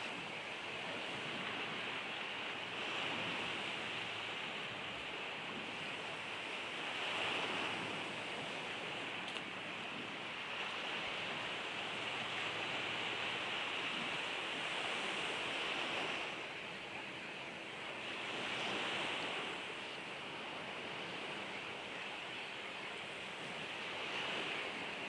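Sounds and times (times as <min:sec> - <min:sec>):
sea surf rushing: 0:00.0 - 0:25.0.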